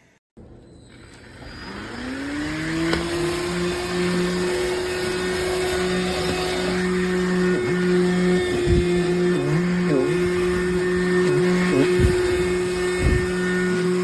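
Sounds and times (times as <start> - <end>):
handheld vacuum motor whining: 0.7 - 14.0.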